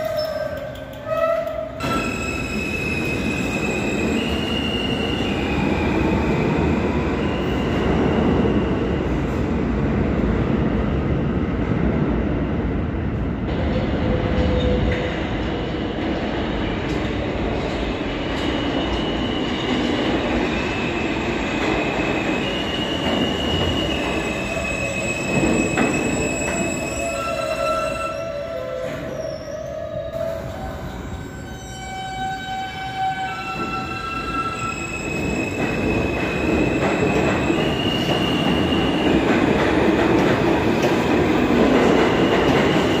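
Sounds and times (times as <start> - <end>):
train wheels rumbling on rails: 0.0 - 29.4, 30.1 - 43.0.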